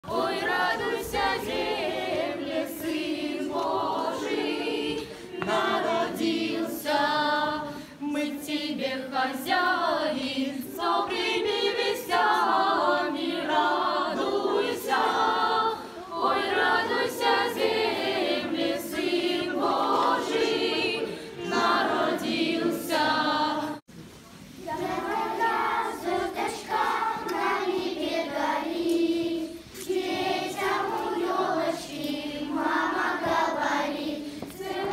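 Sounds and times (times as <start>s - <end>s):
children's choir singing chants: 0.0s - 23.9s, 24.6s - 34.9s.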